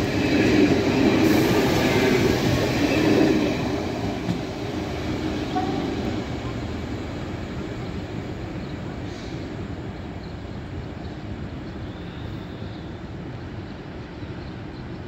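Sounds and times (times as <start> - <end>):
passenger train rumbling: 0.0 - 15.0.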